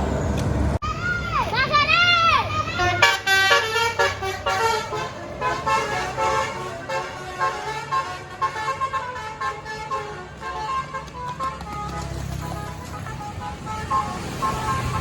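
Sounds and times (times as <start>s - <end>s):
bus engine hum: 0.0s - 15.0s
multi-tone air horn melody: 2.7s - 15.0s.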